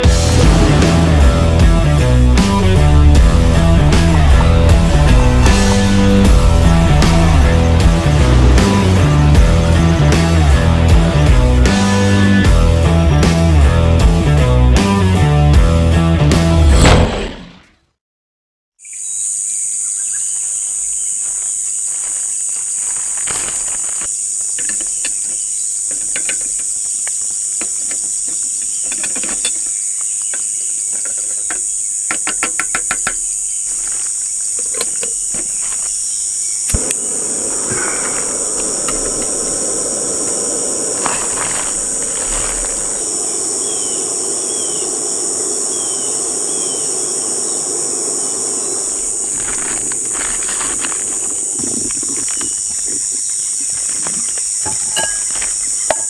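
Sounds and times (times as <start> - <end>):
insects shrilling: 0.0 - 12.5, 18.8 - 56.0.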